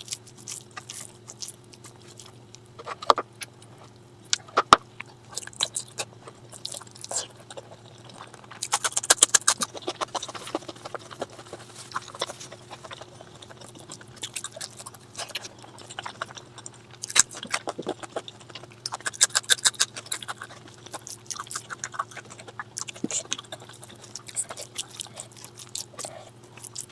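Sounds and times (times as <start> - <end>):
person chewing crunchy food: 0.0 - 26.9.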